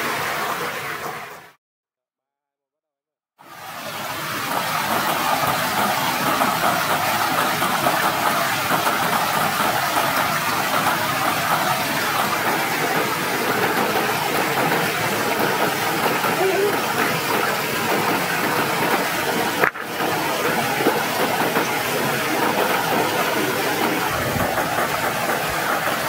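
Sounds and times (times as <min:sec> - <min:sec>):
stream and small waterfall rushing: 0:00.0 - 0:01.6, 0:03.4 - 0:26.0.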